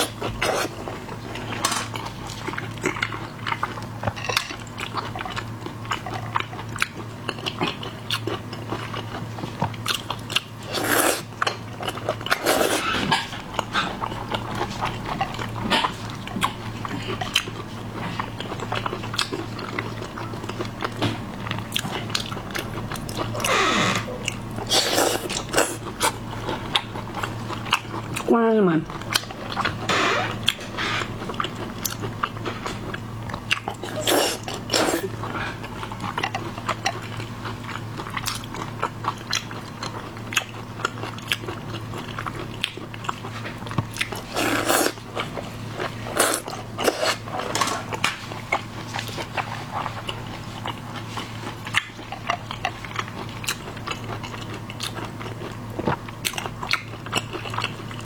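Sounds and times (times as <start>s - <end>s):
crunchy chewing of shellfish: 0.0s - 58.0s.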